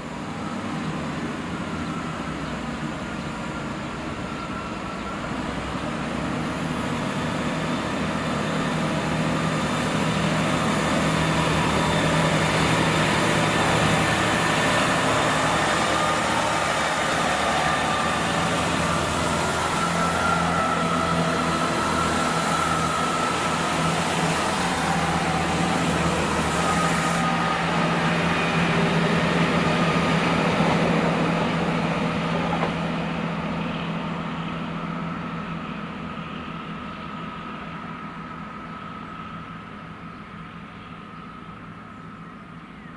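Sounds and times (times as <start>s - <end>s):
diesel train engine drone: 0.0s - 42.9s.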